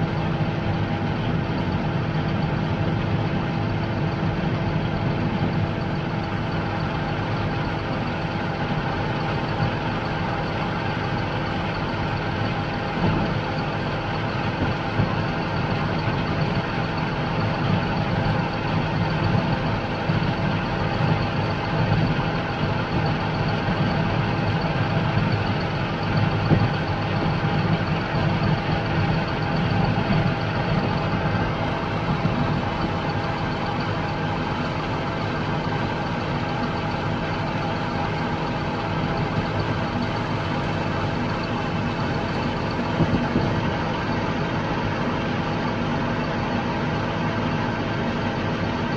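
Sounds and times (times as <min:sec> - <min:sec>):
steady whine: 0:00.0 - 0:48.9
tractor engine drone: 0:00.0 - 0:48.9.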